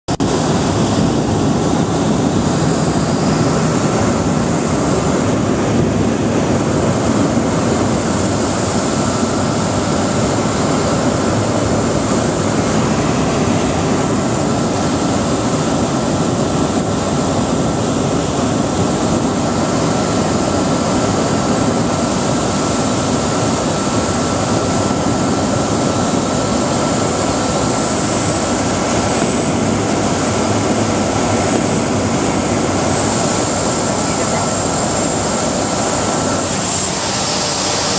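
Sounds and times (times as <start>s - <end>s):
thin high whine: 0.1s - 37.9s
turboprop engine drone: 0.1s - 37.9s.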